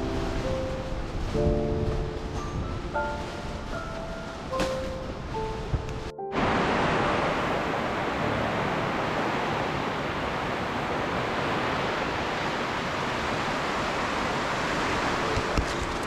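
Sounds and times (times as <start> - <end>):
heavy rain: 0.0 - 16.0
strong wind rushing: 0.0 - 16.0.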